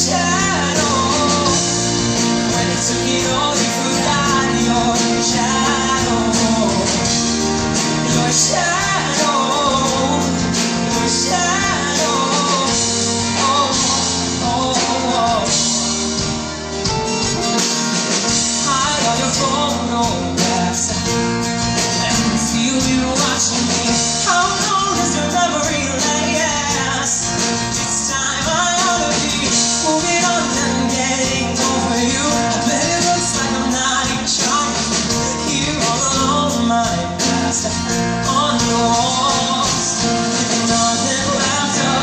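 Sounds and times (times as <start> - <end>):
person singing wordless vocal: 0.0 - 16.4, 18.5 - 42.0
pop-rock band playing: 0.0 - 42.0.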